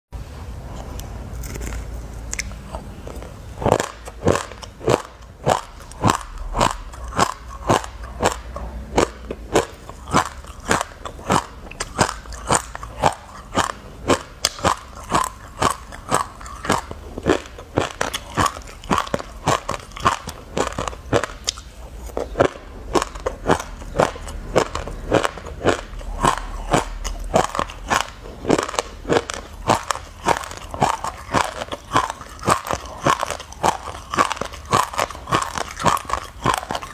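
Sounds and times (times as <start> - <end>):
chewing crunchy seeds: 0.7 - 36.9.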